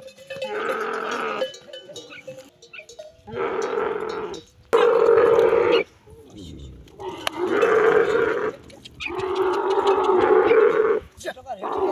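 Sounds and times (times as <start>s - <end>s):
camels roaring: 0.4s - 1.5s, 3.2s - 11.9s.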